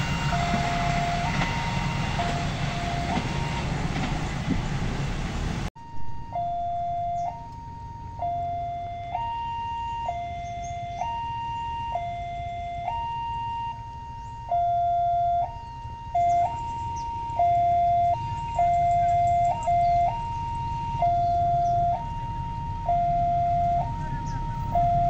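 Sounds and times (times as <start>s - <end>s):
level crossing two-tone alarm: 0.0s - 3.9s, 5.8s - 25.0s.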